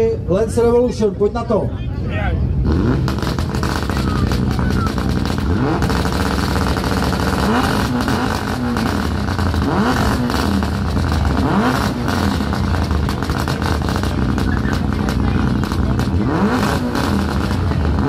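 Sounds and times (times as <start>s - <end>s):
car engine revving: 2.5s - 18.0s.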